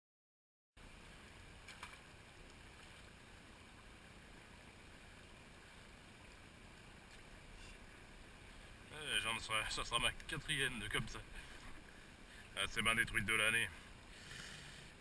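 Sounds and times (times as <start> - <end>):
faint trickle of stream: 0.8 - 15.0.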